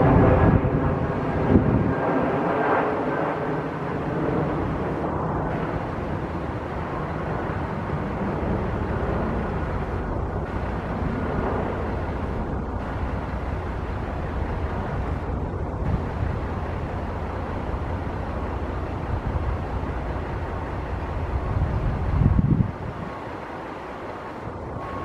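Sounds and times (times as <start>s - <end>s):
train passing: 4.6s - 25.0s.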